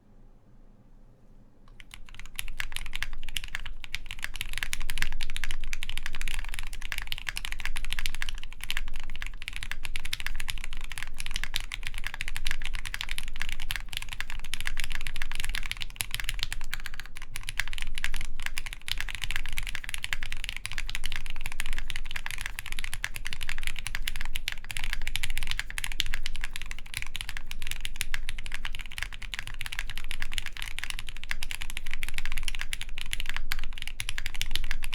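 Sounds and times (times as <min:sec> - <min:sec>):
mechanical keyboard typing: 0:01.7 - 0:34.9.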